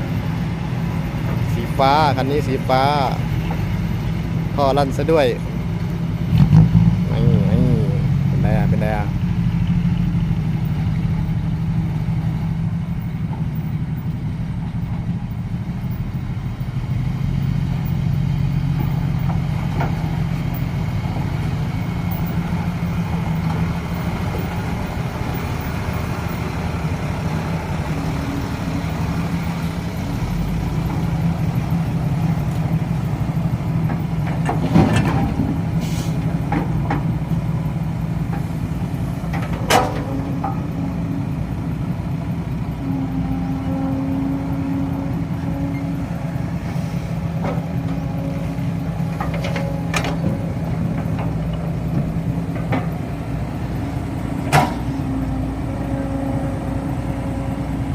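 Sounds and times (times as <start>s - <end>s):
dump truck engine rumbling: 0.0s - 57.9s.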